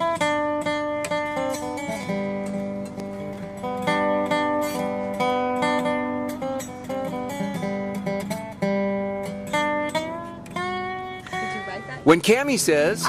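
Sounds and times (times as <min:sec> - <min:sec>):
acoustic guitar strumming and picking: 0:00.0 - 0:13.0.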